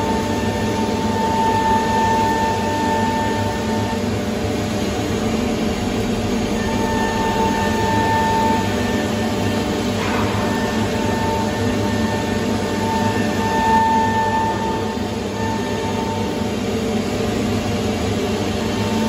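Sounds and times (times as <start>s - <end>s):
router spindle high whine: 0.0s - 19.0s
rushing machine hum: 0.0s - 19.0s.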